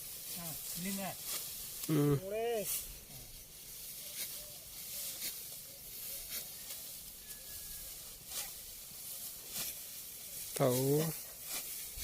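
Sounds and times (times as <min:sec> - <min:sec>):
dry rice stalks rustling: 0:00.0 - 0:12.0
steady hiss: 0:00.0 - 0:12.0.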